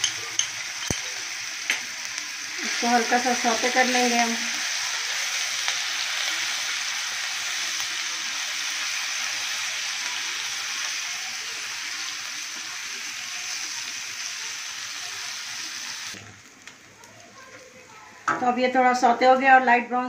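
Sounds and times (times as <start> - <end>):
paste sizzling in hot oil: 0.0 - 18.2.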